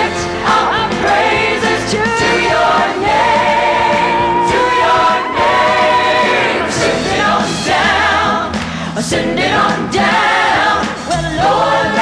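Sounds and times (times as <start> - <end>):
gospel choir singing: 0.0 - 12.0
instrumental backing: 0.0 - 12.0.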